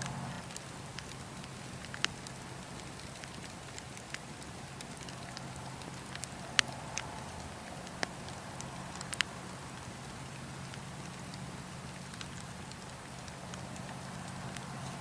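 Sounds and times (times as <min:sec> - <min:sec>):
fire popping and snapping: 0:00.0 - 0:15.0
wood fire crackling: 0:00.0 - 0:15.0.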